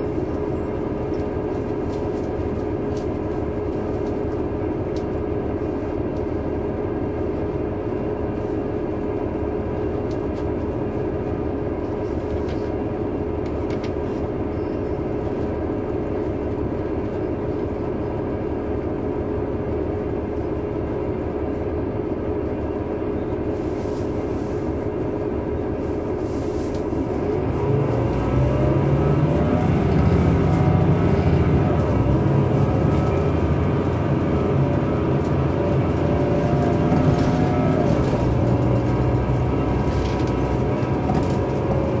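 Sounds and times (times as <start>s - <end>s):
bus diesel engine humming: 0.0s - 42.0s.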